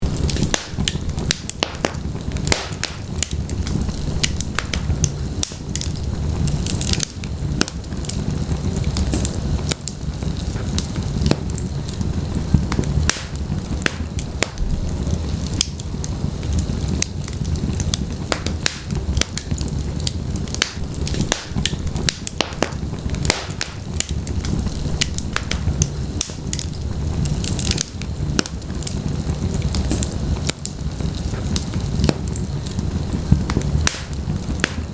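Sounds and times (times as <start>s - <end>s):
low rumble of flame: 0.0s - 34.9s
wood fire crackling and popping: 0.0s - 34.9s.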